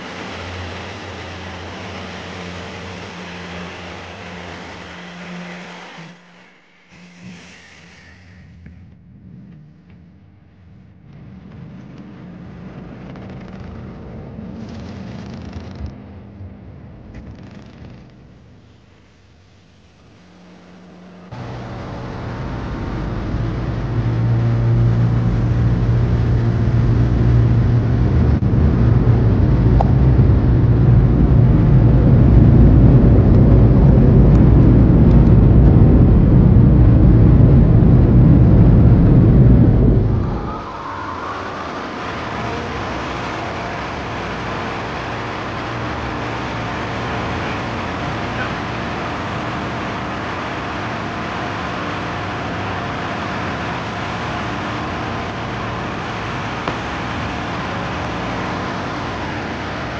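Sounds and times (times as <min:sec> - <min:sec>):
car wash machinery rumbling: 0:00.0 - 0:10.5, 0:18.4 - 0:59.9
steady background noise: 0:00.0 - 0:59.9.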